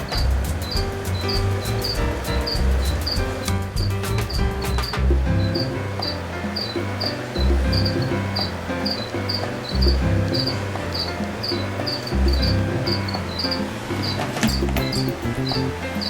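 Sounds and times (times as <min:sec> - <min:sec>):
background music with bass line: 0:00.0 - 0:16.0
high chirping: 0:00.0 - 0:16.0.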